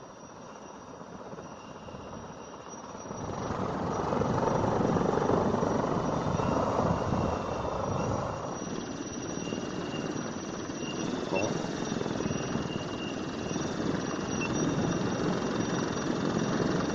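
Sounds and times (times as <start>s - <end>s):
faint high electric motor whine: 0.0s - 16.9s.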